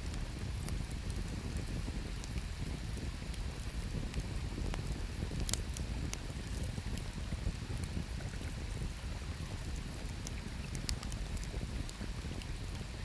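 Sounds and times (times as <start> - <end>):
campfire crackling and popping: 0.0 - 12.8.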